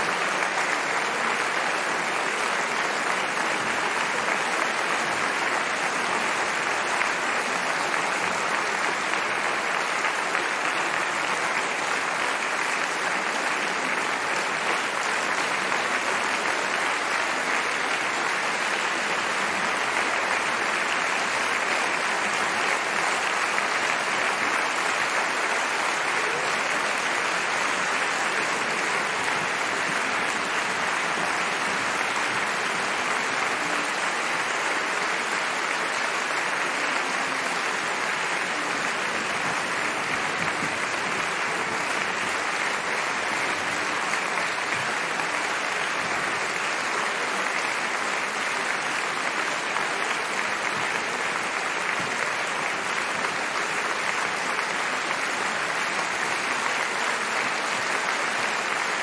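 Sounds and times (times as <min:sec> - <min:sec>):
audience applauding: 0:00.0 - 0:59.0.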